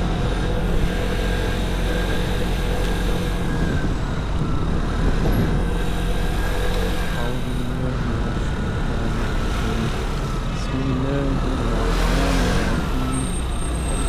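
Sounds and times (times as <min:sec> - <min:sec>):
road and traffic noise: 0:00.0 - 0:14.0.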